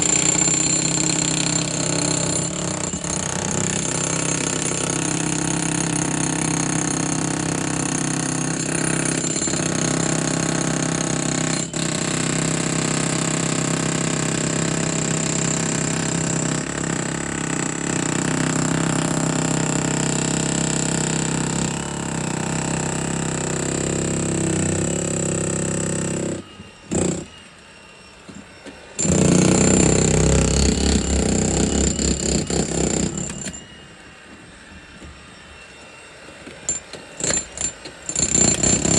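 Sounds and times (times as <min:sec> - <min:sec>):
jackhammer breaking concrete: 0:00.0 - 0:27.3, 0:29.0 - 0:33.6, 0:36.7 - 0:38.9.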